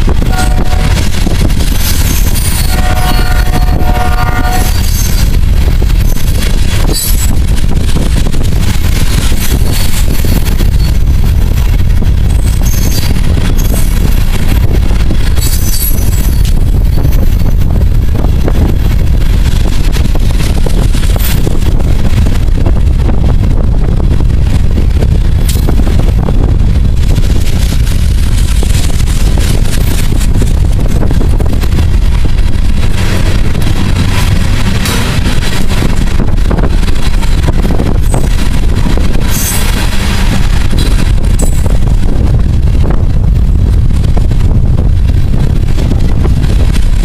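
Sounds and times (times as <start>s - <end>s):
train wheels rumbling on rail: 0.0s - 47.0s
wind buffeting microphone: 0.0s - 47.0s.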